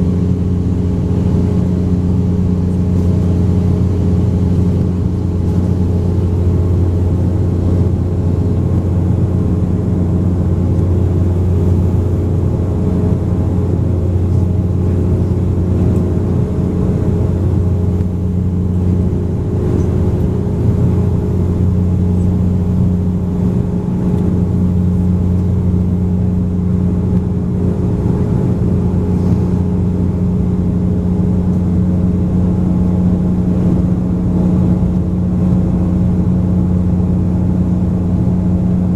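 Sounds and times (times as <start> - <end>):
rushing air noise: 0.0 - 38.9
turboprop engines droning: 0.0 - 38.9.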